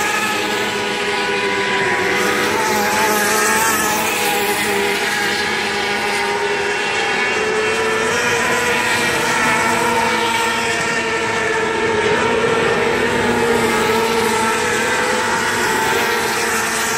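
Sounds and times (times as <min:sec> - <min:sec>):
many race car engines: 0:00.0 - 0:16.9.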